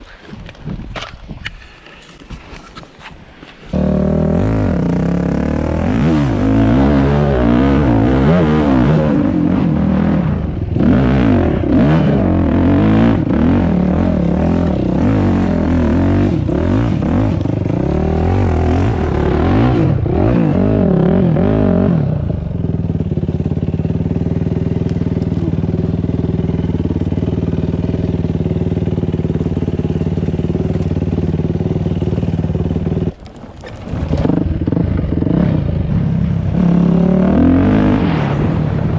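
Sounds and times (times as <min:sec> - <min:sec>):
dirt bike engine revving: 0:03.7 - 0:38.9.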